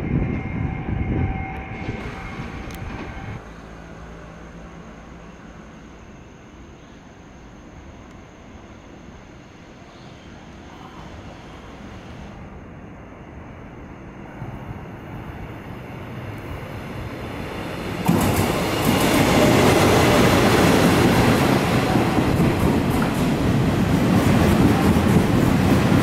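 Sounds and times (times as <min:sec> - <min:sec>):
passenger train passing at speed: 0:00.0 - 0:26.0.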